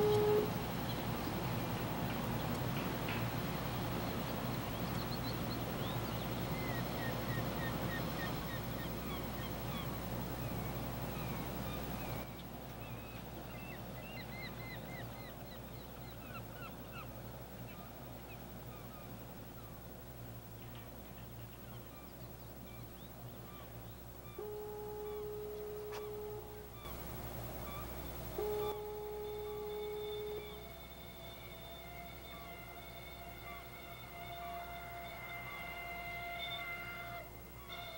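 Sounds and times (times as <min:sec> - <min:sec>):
birds chirping: 0:00.0 - 0:37.9
steady low hum: 0:00.0 - 0:37.9.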